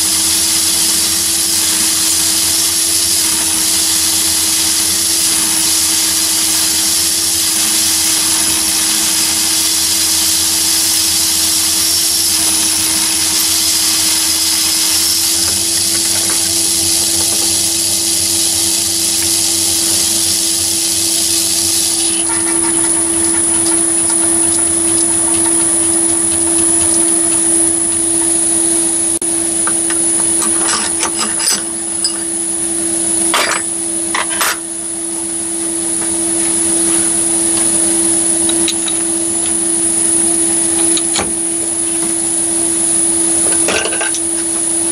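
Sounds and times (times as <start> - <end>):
drill cutting metal: 0.0 - 44.9
lathe running: 0.0 - 44.9.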